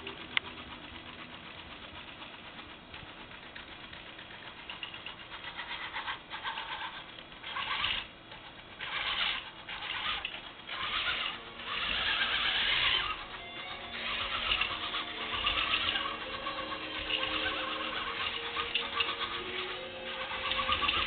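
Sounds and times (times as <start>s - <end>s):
robot motors whining: 0.0s - 21.0s.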